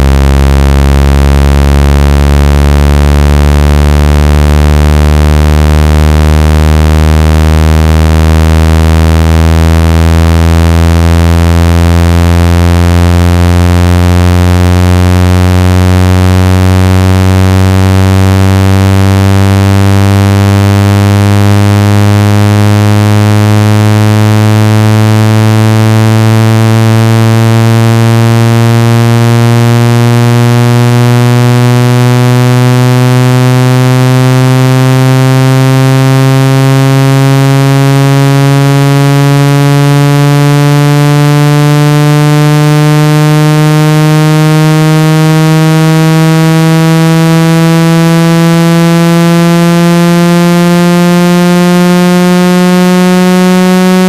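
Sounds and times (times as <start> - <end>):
low buzzing tone rising: 0.0 - 54.0.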